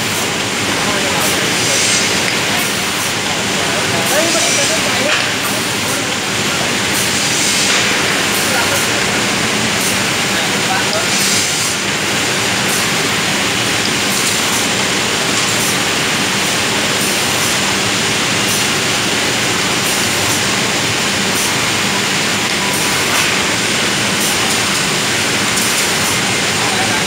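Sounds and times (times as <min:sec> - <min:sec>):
drilling machine rushing noise: 0:00.0 - 0:27.0.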